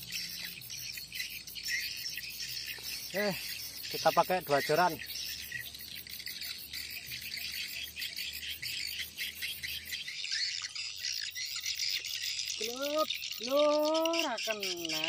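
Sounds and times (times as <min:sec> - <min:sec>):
swiftlets chirping: 0:00.0 - 0:15.0.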